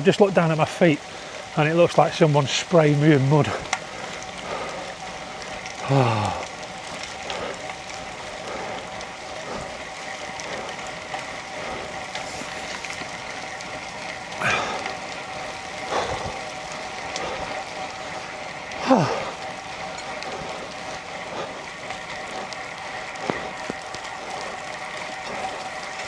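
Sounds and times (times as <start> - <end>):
pouring rain: 0.0 - 26.0
tyres on wet gravel: 0.0 - 26.0.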